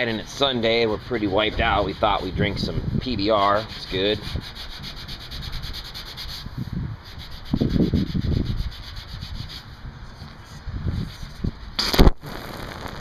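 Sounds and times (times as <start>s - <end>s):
sandpaper rubbing on metal: 0.0s - 11.8s.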